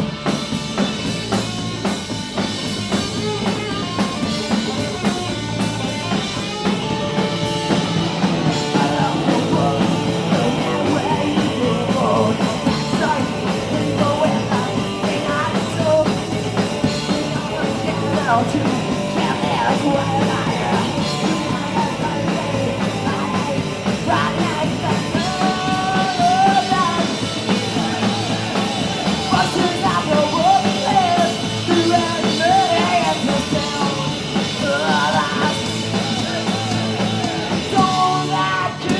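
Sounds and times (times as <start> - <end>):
punk rock band playing: 0.0 - 38.9.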